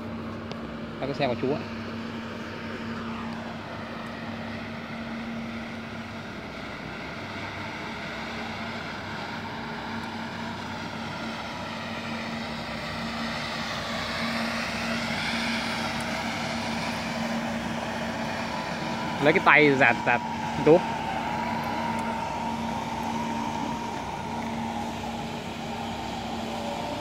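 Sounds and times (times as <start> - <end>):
floor scrubber motor hum and whine: 0.0 - 27.0.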